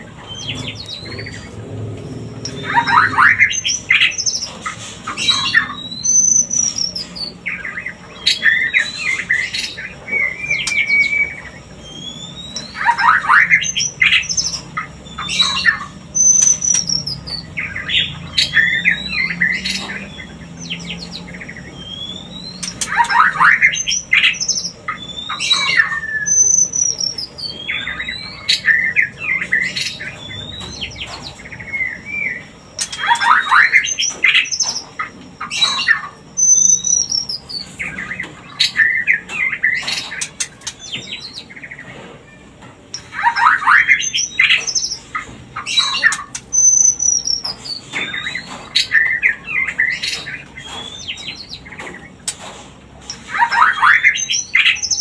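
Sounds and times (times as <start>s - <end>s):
bird rasping and whistling calls: 0.0s - 55.0s.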